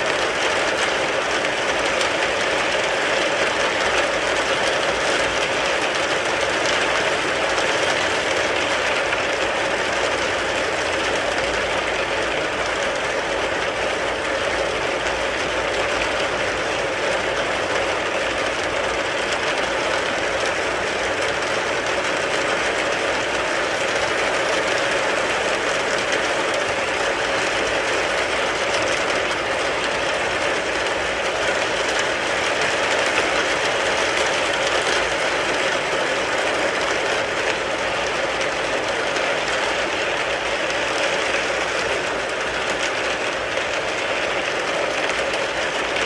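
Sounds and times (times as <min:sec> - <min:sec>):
rain falling on a car: 0:00.0 - 0:46.0.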